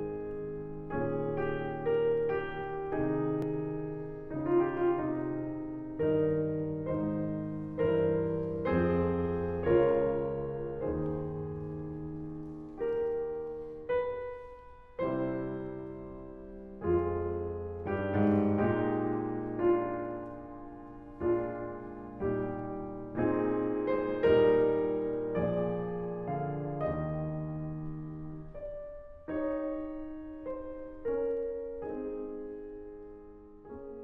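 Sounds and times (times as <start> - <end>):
slow piano music: 0.0 - 34.0.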